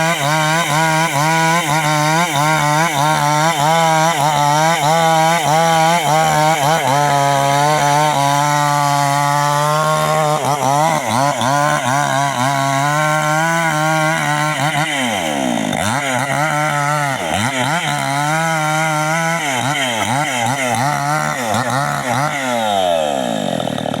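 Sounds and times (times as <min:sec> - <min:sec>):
small chainsaw cutting wood: 0:00.0 - 0:24.0.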